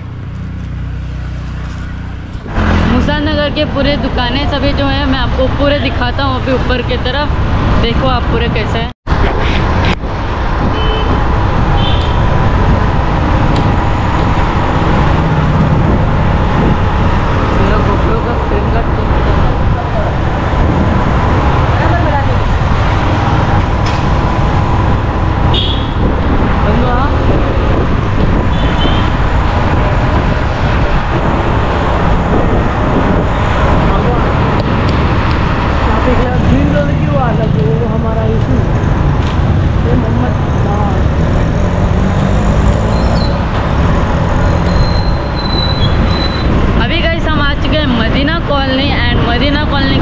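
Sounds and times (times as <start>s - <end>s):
wind rumble on microphone: 1.4s - 50.0s.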